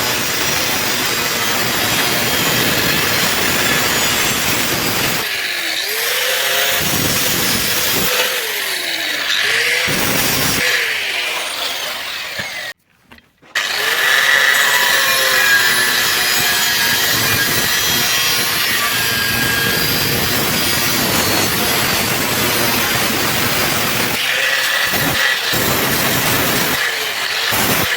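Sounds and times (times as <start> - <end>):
power tool cutting iron pipe: 0.0 - 12.8, 13.6 - 27.9.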